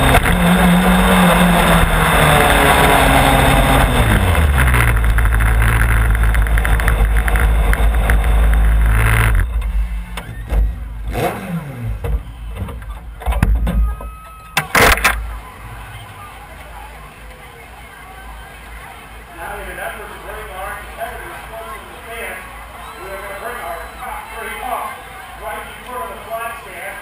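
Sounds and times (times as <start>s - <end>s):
race car engine: 0.0s - 27.0s.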